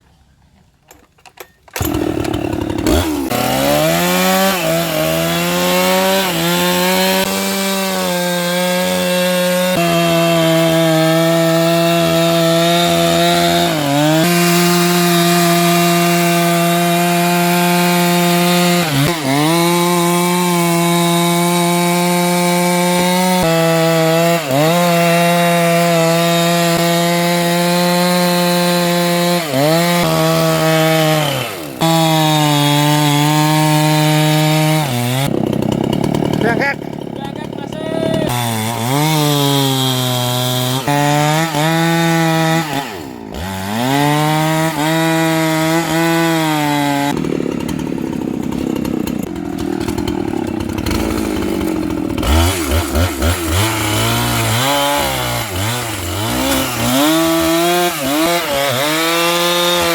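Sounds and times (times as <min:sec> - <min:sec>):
chainsaw cutting wood: 0:00.9 - 0:59.9.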